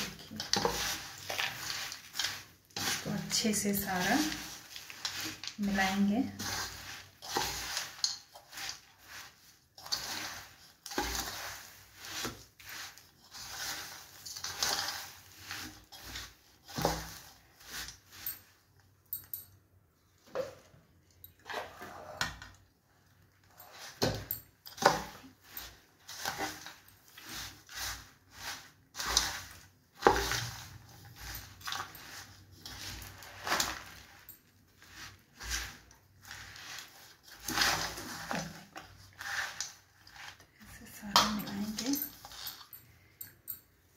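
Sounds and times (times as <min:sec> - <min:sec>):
spoon scraping steel bowl: 0:00.0 - 0:19.5, 0:21.2 - 0:22.5, 0:23.4 - 0:43.6.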